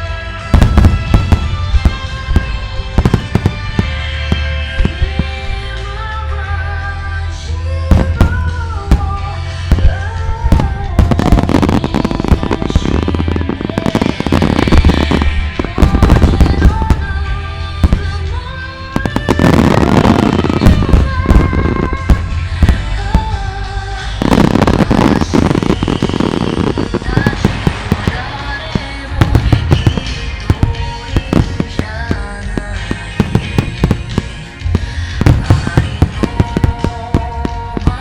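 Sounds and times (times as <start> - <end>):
music from loudspeakers: 0.0 - 38.0
firework shells bursting: 0.6 - 5.9, 7.9 - 38.0.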